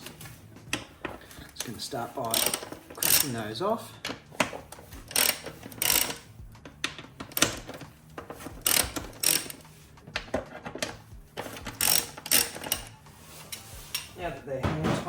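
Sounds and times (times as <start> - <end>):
socket ratchet clicking: 0.0 - 3.4, 4.0 - 9.7, 10.3 - 14.1.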